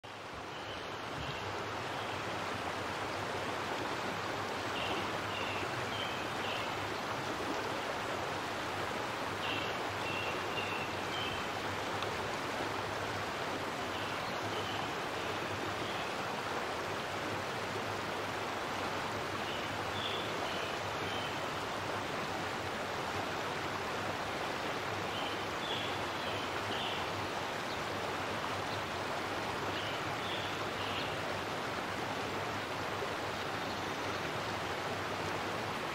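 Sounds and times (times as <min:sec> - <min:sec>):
running water: 0:00.1 - 0:35.9.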